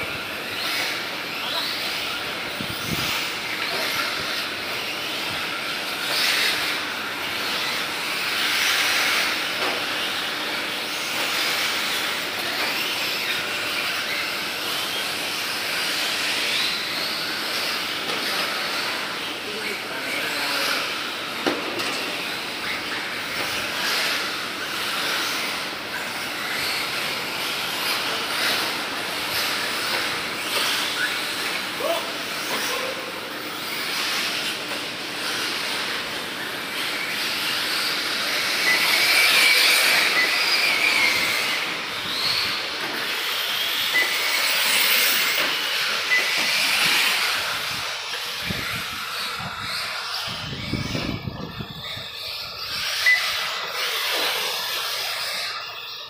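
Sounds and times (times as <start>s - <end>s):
high motor whine: 0.0s - 56.0s.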